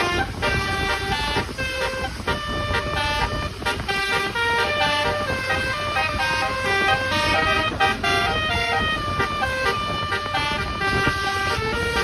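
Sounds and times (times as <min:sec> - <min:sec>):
low rumble: 0:00.0 - 0:12.0
multi-note bus horn melody: 0:00.0 - 0:12.0.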